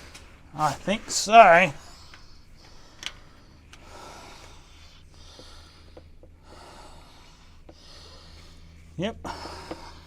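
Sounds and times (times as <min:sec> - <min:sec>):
faint low hum: 0:00.0 - 0:10.0
man breathing: 0:01.1 - 0:10.0.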